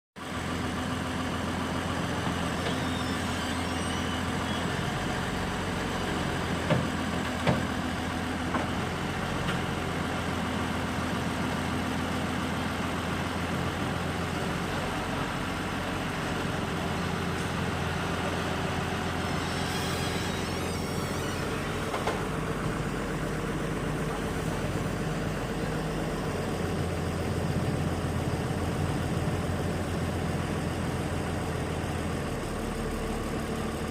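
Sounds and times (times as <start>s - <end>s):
heavy diesel engine running: 0.2s - 33.9s.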